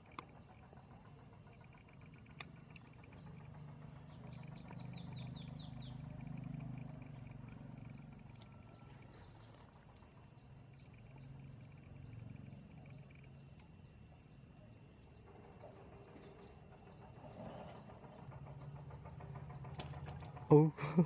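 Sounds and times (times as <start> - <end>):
bird chirping: 0.0 - 21.0
insects trilling: 0.0 - 21.0
low drone: 0.0 - 21.0.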